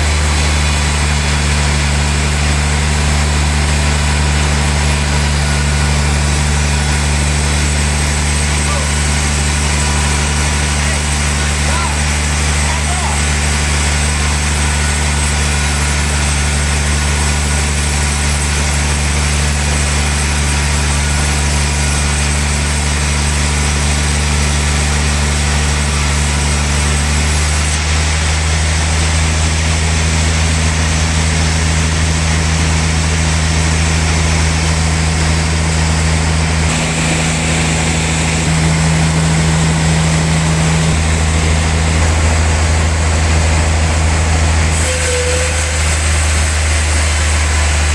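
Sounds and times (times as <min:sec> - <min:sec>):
saw hissing: 0:00.0 - 0:47.9
sawmill machine drone: 0:00.0 - 0:47.9.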